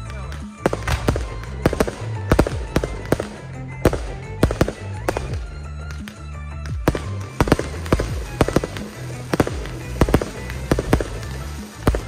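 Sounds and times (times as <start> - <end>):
firework bangs: 0.0 - 12.0
music with bass notes: 0.0 - 12.0.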